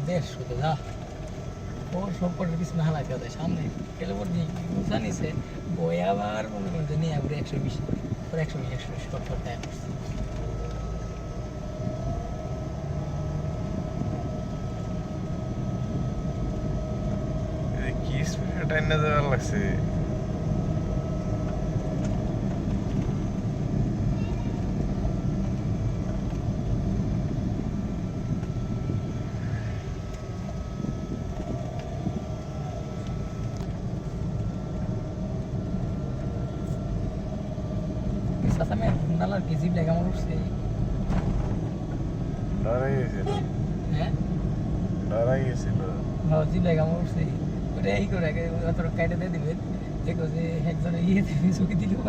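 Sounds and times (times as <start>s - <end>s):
faint steady whine: 0.0s - 52.0s
vehicle engine and road rumble: 0.0s - 52.0s.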